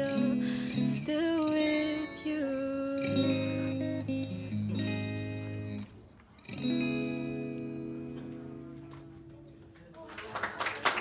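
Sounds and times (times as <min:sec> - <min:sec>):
guitar chords ringing: 0:00.0 - 0:09.7.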